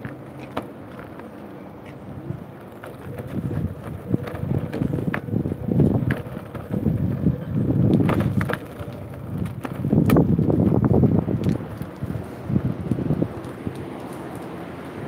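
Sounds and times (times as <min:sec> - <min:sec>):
wind buffeting microphone: 0:01.7 - 0:15.0.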